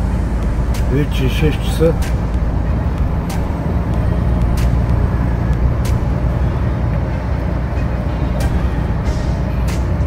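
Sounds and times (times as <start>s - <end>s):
truck diesel engine droning: 0.0s - 10.0s.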